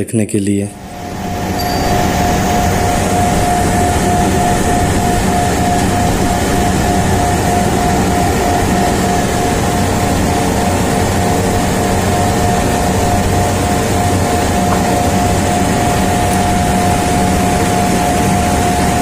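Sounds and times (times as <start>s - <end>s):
machinery drone with whine: 0.8s - 19.0s.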